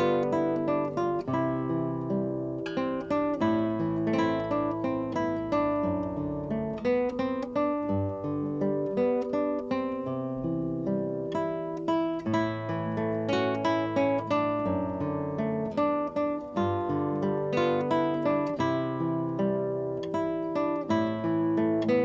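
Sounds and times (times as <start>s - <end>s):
solo acoustic guitar: 0.0s - 22.0s.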